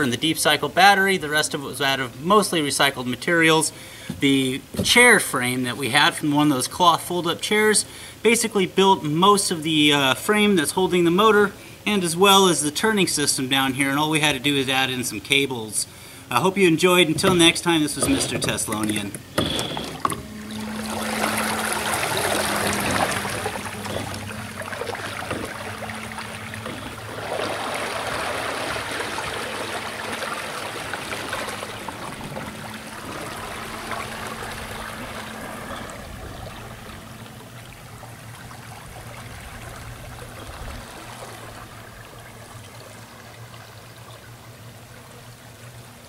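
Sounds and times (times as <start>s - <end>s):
water churning behind propeller: 0.0s - 46.0s.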